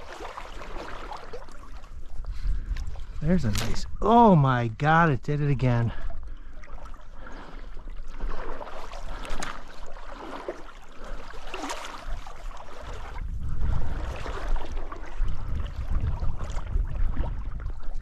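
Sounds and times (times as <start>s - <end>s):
stream water running and splashing: 0.0s - 18.0s.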